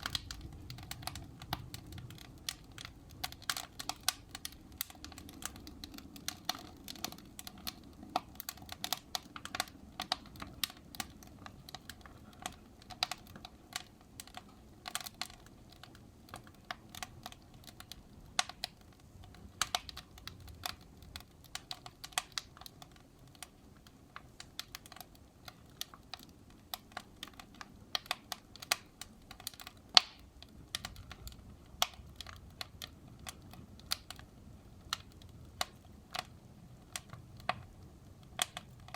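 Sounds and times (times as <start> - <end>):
low hiss of flames: 0.0 - 38.9
wood fire crackling: 0.0 - 38.9.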